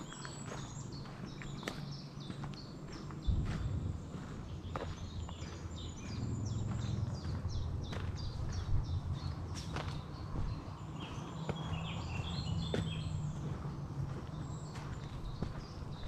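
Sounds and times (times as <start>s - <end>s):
footsteps on forest path: 0.0s - 16.0s
songbird singing: 0.0s - 16.0s.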